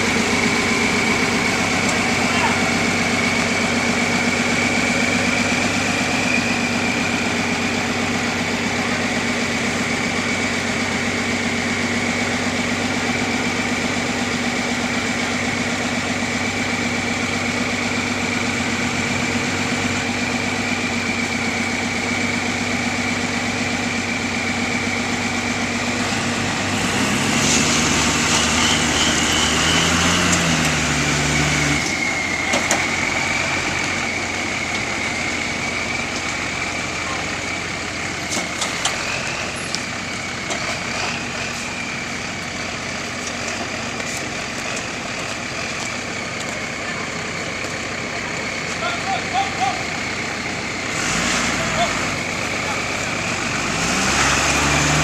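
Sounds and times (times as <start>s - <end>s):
heavy vehicle engine idling: 0.0s - 53.9s.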